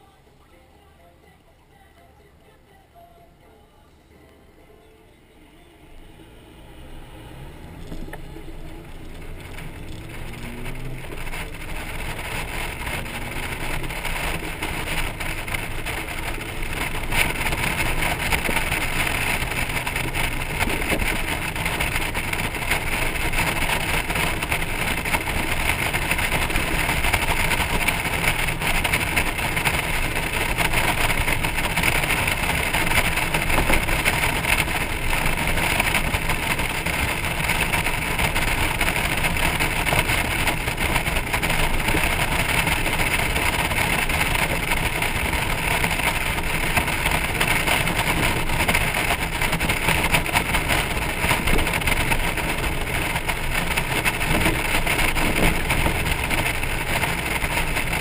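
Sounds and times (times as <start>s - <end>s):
wind and road noise: 3.4s - 58.0s
motorcycle engine accelerating: 5.9s - 58.0s.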